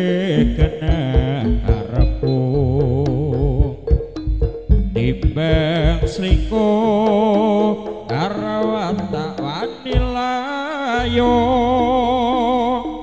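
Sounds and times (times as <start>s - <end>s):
high wavering melody: 0.0s - 13.0s
live ensemble music: 0.2s - 13.0s.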